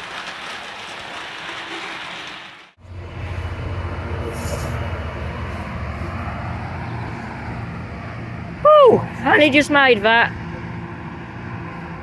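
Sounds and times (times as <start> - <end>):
train engine rumbling: 0.0 - 12.0.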